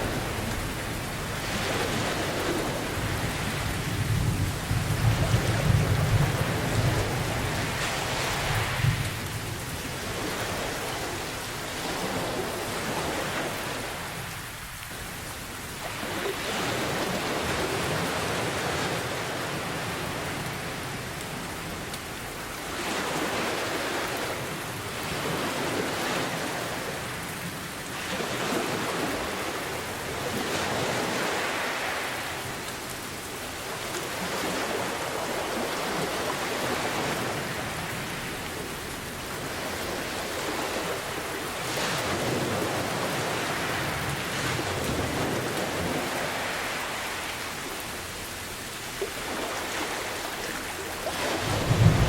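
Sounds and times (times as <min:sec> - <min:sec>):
ocean waves: 0:00.0 - 0:52.0
rain downpour: 0:00.0 - 0:52.0.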